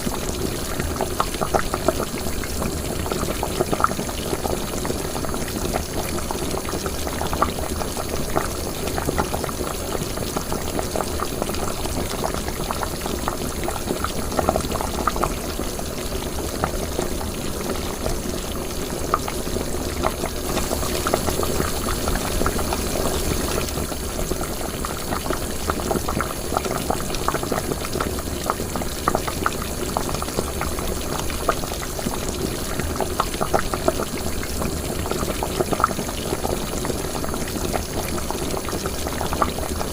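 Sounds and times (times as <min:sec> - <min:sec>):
liquid boiling and bubbling: 0:00.0 - 0:39.9.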